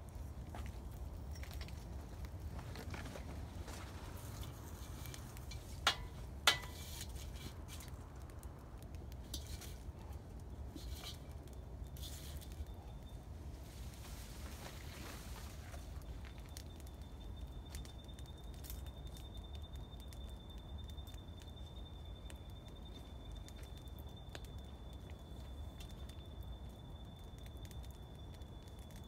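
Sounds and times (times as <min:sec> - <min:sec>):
twig fire crackling: 0:00.0 - 0:29.0.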